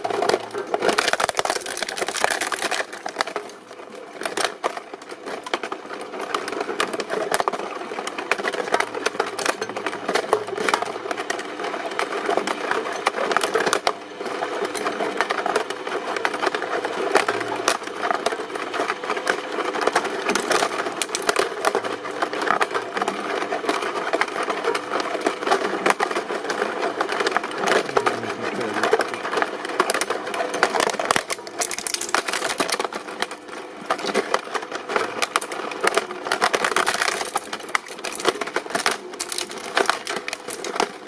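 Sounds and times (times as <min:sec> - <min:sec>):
material crushed in a press: 0:00.0 - 0:41.0.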